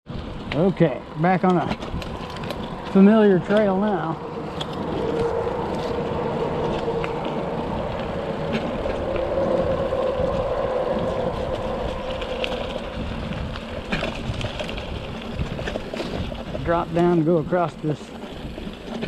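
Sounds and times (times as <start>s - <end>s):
bike clicks and rattles: 0.1s - 19.0s
bike tyres humming on dirt: 0.1s - 19.0s.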